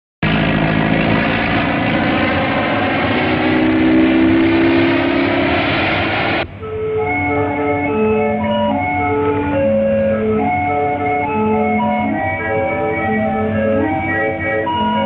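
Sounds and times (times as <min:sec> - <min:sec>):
propeller plane engine droning: 0:00.2 - 0:15.0
film music: 0:01.8 - 0:15.0.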